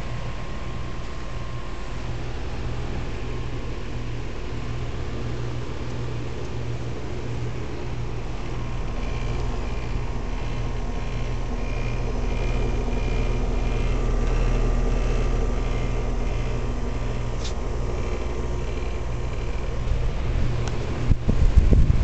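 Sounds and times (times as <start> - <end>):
heat pump humming: 0.0 - 22.0.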